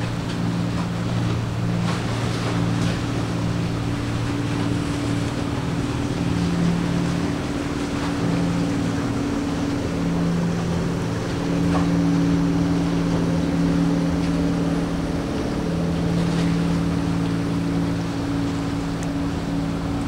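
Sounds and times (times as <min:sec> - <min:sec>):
boat engine humming: 0:00.0 - 0:20.0
water noise: 0:00.0 - 0:20.0
wind: 0:00.0 - 0:20.0.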